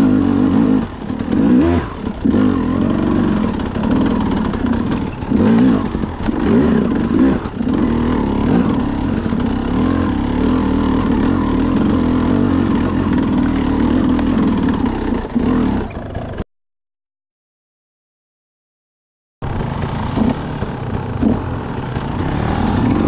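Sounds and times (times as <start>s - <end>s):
dirt bike engine revving: 0.0s - 16.4s, 19.4s - 23.0s.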